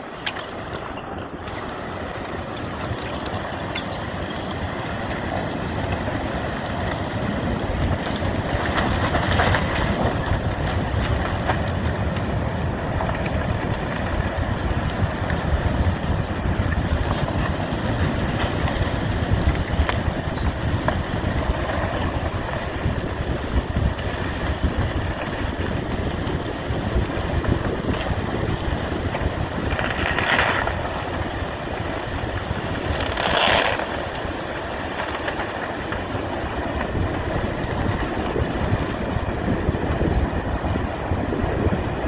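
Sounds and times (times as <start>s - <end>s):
wind on microphone: 0.0s - 42.0s.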